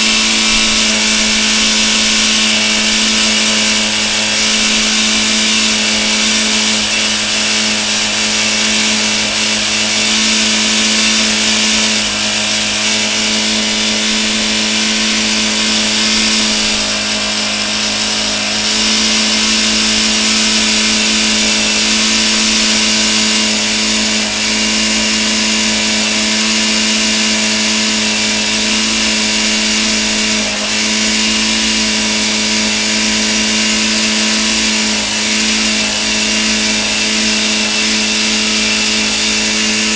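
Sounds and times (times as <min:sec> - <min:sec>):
car engine running at high pitch: 0:00.0 - 0:39.9.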